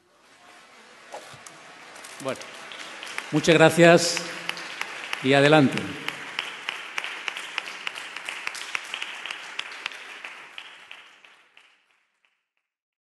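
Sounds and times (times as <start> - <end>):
audience applauding: 0.6 - 12.4.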